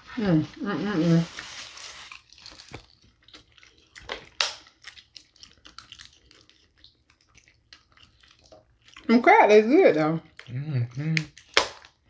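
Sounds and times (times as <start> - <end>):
wet sucking and chewing: 1.0 - 9.2, 10.2 - 12.0.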